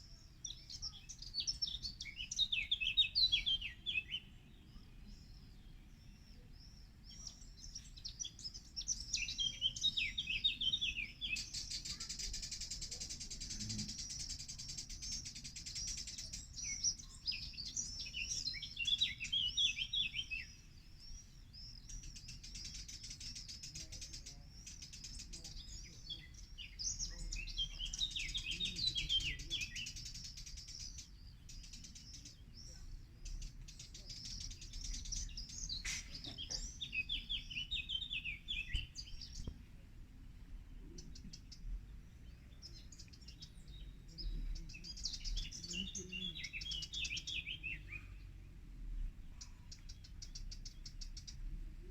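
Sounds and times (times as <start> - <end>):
songbirds singing and chirping: 0.0 - 51.9.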